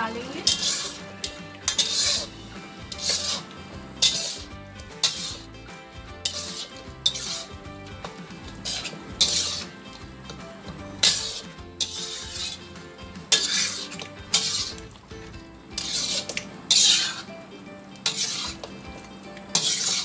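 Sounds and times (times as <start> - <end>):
metal spatula scraping iron pan: 0.0 - 15.0, 15.7 - 17.4, 18.0 - 20.0.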